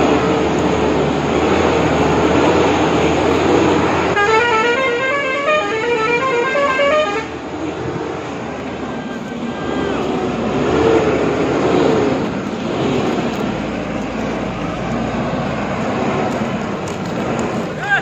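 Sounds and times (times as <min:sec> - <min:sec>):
truck diesel engine rumbling: 0:00.0 - 0:18.0.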